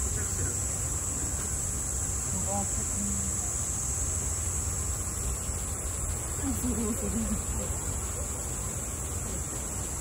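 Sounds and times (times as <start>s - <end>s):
cicadas droning: 0.0s - 10.0s.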